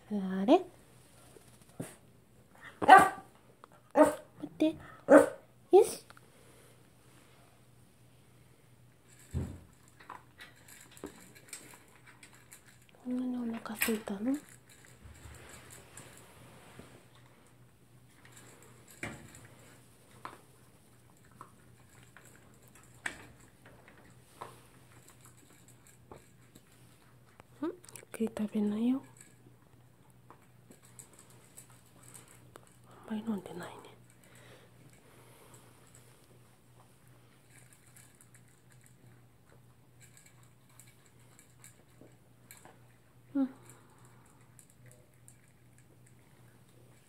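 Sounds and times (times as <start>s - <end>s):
dog eating from plastic bowl: 8.9s - 47.0s.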